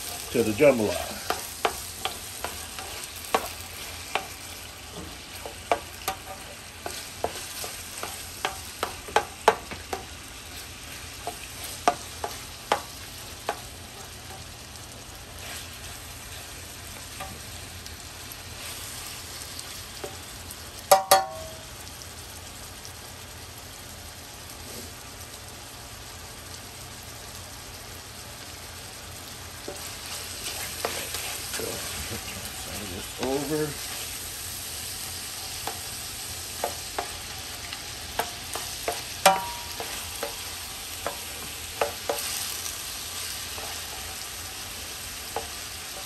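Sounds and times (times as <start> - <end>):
meat sizzling in oil: 0.0 - 46.0.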